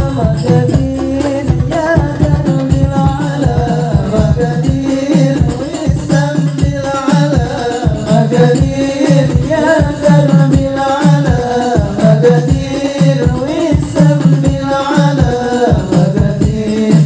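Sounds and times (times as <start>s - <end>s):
frame drums: 0.0s - 17.0s
male voices singing: 0.0s - 17.0s.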